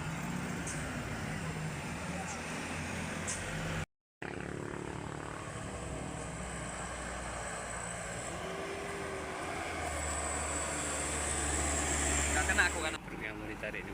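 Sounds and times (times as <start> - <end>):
heavy vehicle engines running: 0.0 - 13.9.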